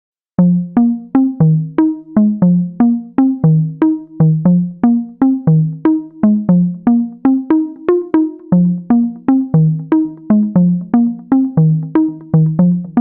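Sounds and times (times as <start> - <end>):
synthesizer plucked melody: 0.4 - 13.0.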